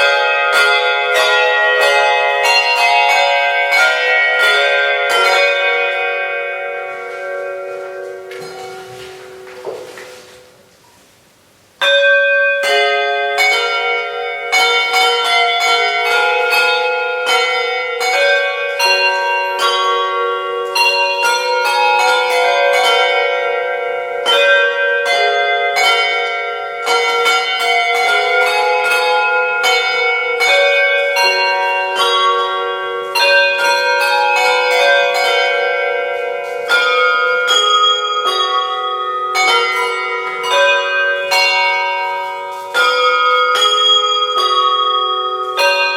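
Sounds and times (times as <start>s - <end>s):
handbell choir playing: 0.0s - 10.1s, 11.8s - 45.9s.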